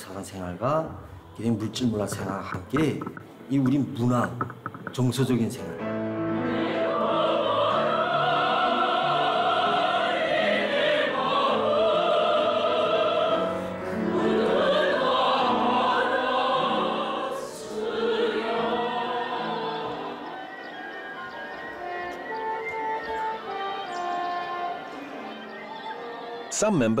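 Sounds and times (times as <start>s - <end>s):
operatic singing: 0.0s - 26.7s.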